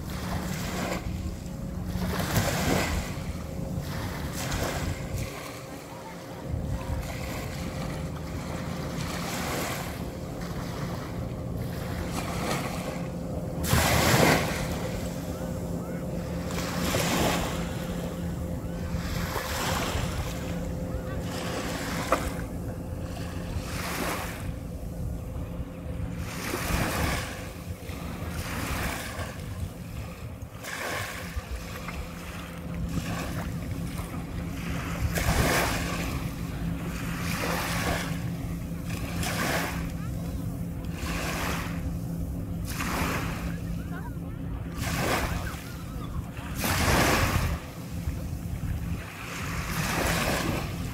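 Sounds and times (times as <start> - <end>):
small waves washing onto sand: 0.0 - 50.9.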